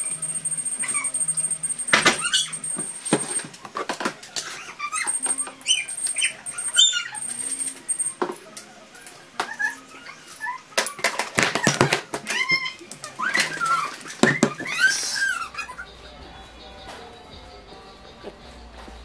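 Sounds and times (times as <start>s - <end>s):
high squeaky whines: 0.0s - 16.1s.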